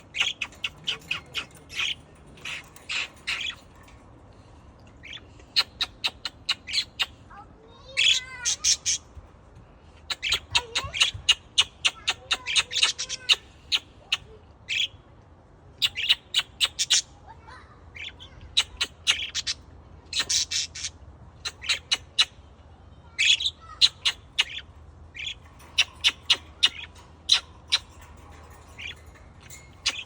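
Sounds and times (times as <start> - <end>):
birds chirping and squawking: 0.0 - 15.2, 15.8 - 30.0.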